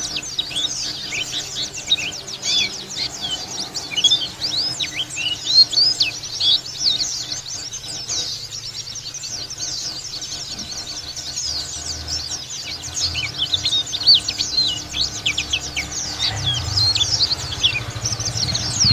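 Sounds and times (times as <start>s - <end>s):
bird twittering chirps: 0.0s - 18.9s.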